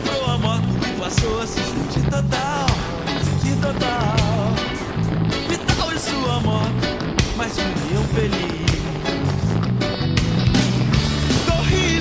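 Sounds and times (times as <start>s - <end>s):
held bass notes: 0.0s - 12.0s
rock drums beating: 0.0s - 12.0s.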